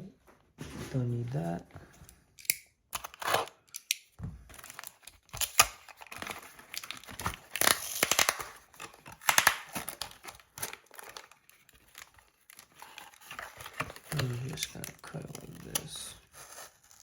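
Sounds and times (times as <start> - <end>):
packaging crinkling and tearing: 3.0 - 17.0.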